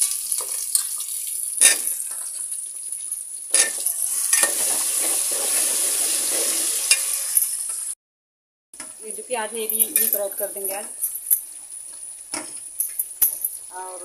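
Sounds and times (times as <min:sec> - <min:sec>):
potatoes sizzling in oil: 0:00.0 - 0:08.0, 0:08.8 - 0:14.0.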